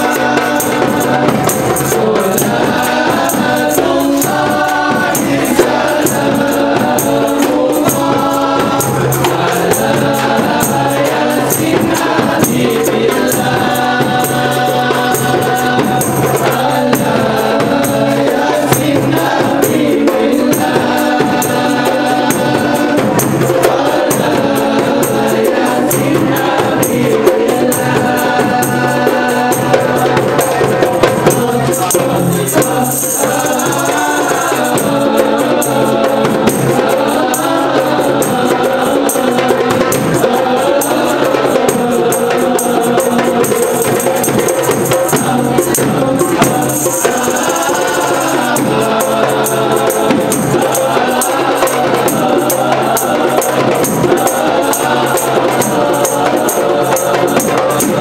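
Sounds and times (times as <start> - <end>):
frame drums beating: 0.0 - 58.0
men singing together: 0.0 - 58.0.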